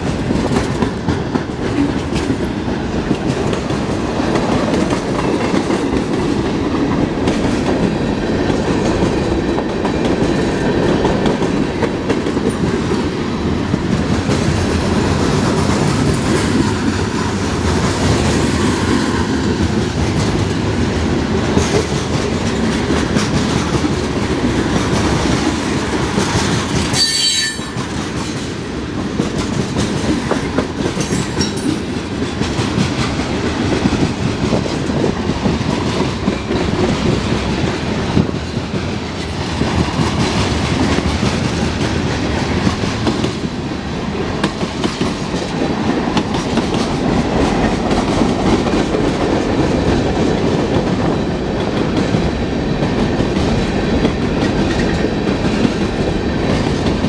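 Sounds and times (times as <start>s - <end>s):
clickety-clack over rail joints: 0.0s - 57.0s
steel wheels rolling on rail: 0.0s - 57.0s.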